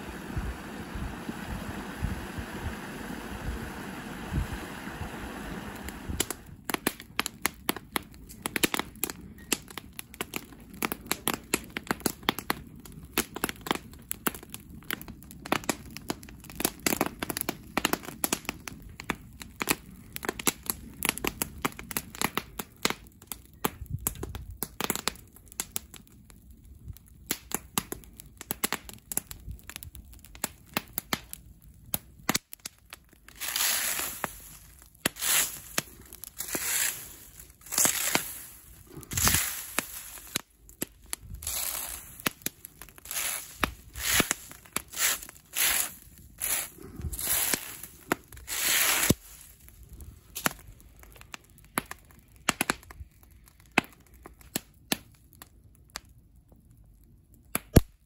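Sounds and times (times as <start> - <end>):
burning leaves crackling: 0.0 - 58.0.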